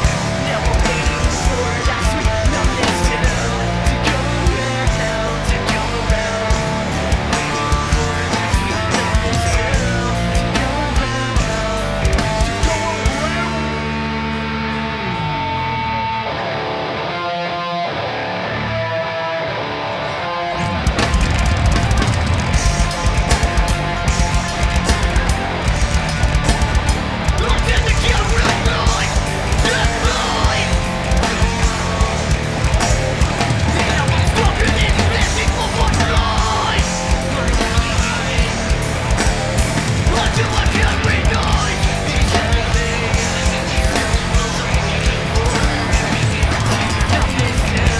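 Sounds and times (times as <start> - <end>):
low bass line: 0.0 - 16.2, 20.7 - 47.9
drums: 0.0 - 47.9
electric guitar chords ringing: 0.0 - 47.9
rock band playing live: 0.0 - 47.9.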